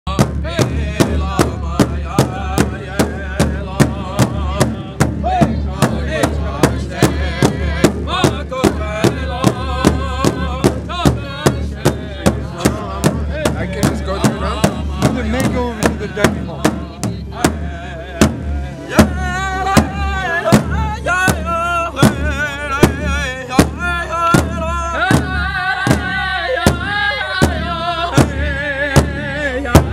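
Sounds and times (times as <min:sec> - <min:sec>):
large drum beaten with sticks: 0:00.1 - 0:29.9
voices singing: 0:00.1 - 0:29.9.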